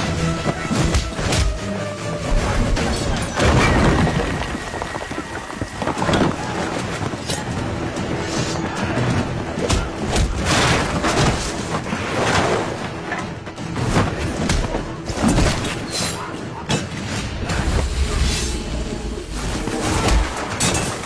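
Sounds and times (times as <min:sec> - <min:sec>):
background film music: 0:00.0 - 0:21.0.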